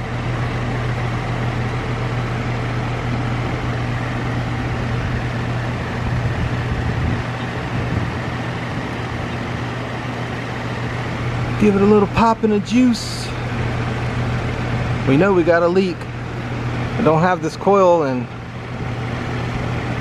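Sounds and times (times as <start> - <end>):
compressor hum: 0.0 - 20.0
condenser fan rushing: 0.0 - 20.0.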